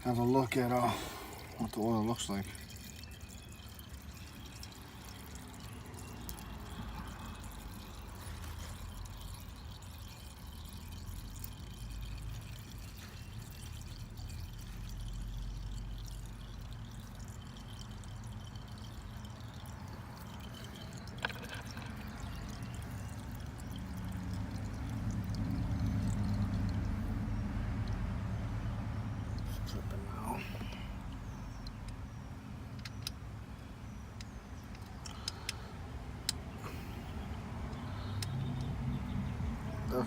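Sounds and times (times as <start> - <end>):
oil trickling into can: 0.0 - 40.0.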